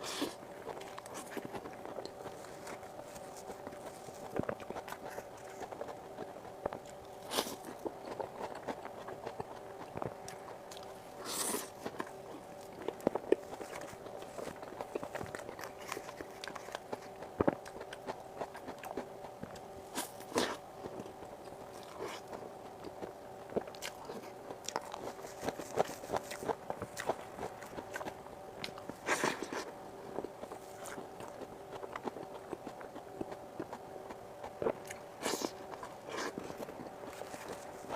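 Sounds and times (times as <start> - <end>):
faint steady hum: 0.0 - 37.9
wet mouth chewing sounds: 0.0 - 37.9.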